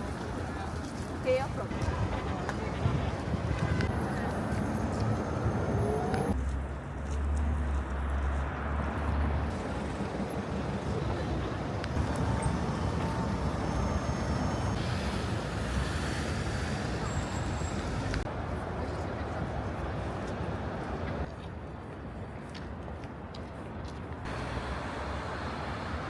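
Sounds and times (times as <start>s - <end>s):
vehicles passing: 0.0s - 21.3s, 24.2s - 26.0s
faint voices of passers-by: 0.0s - 26.0s.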